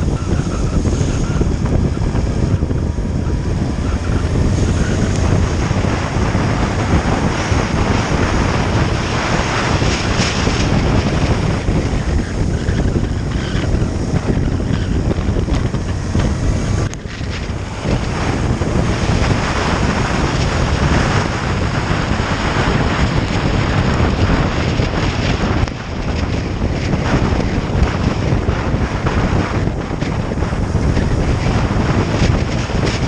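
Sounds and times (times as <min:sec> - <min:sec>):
motorcycle engine: 0:00.0 - 0:33.0
road noise: 0:00.0 - 0:33.0
wind rushing over microphone: 0:00.0 - 0:33.0.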